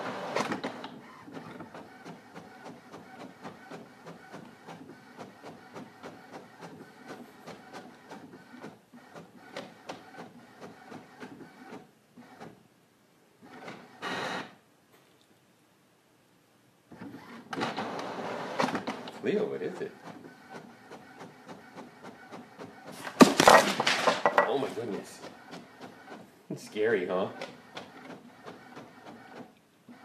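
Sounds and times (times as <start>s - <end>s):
printer ticking and whirring: 0.0s - 12.6s, 13.4s - 14.6s, 16.9s - 23.2s, 24.7s - 30.0s.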